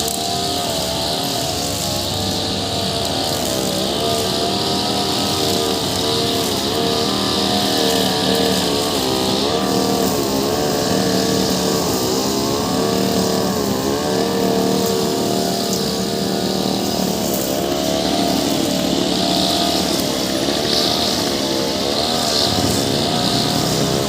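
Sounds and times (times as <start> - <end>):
brush cutter engine cutting grass: 0.0 - 24.0.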